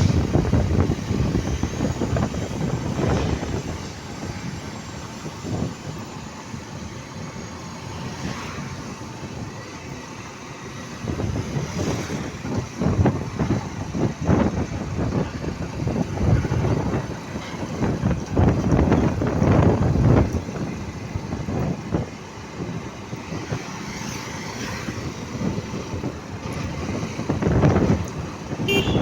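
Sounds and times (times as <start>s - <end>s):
road vehicle rumble: 0.0s - 29.0s.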